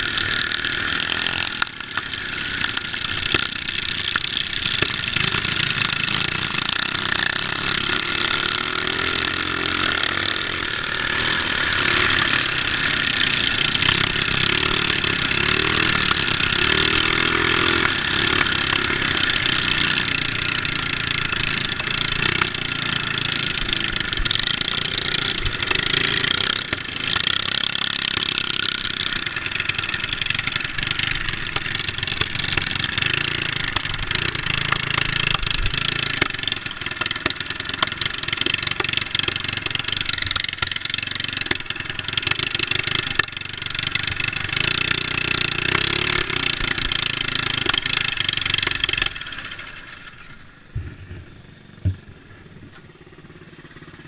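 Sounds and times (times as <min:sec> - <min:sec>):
mini bike engine running: 0:00.0 - 0:54.0.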